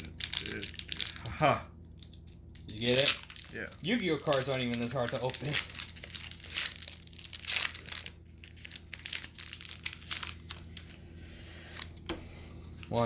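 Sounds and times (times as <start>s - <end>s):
foil wrapper crinkling and tearing: 0.0s - 1.3s, 2.0s - 12.0s.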